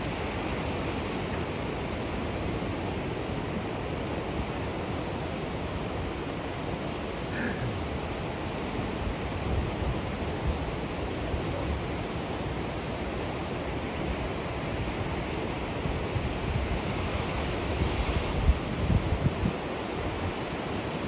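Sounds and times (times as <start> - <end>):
waves breaking on a beach: 0.0 - 21.0.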